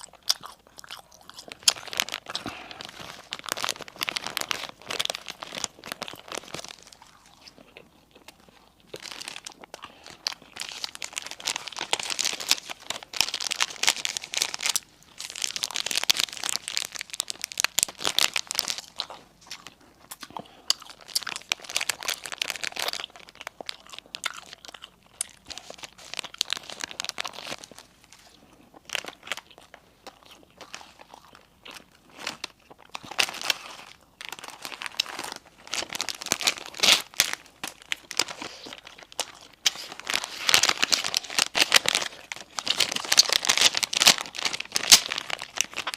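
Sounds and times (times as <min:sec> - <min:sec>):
crunching crispy bread: 0:00.0 - 0:45.9.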